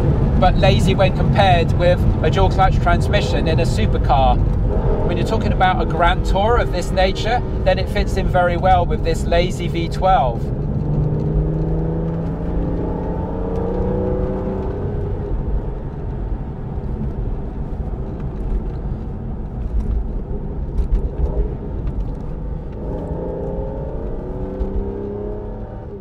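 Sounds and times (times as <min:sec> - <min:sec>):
car engine pulling: 0:00.0 - 0:26.0
road and tyre noise: 0:00.0 - 0:26.0.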